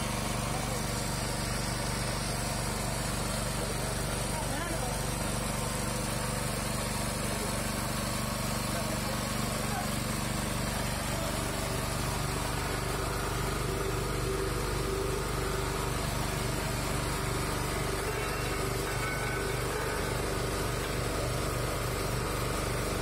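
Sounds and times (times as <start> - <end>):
oil expeller machine droning: 0.0 - 23.0.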